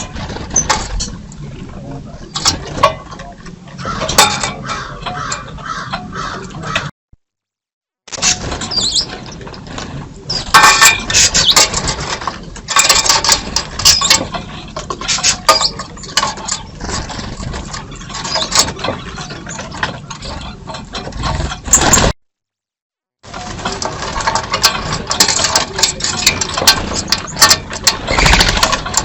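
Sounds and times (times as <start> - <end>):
birds clicking and scratching: 0.0 - 6.9, 8.1 - 22.2, 23.2 - 29.0.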